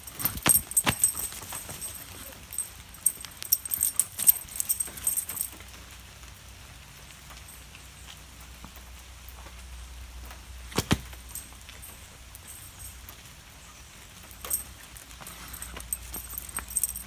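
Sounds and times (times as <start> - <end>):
light rain on pavement: 0.0 - 17.0.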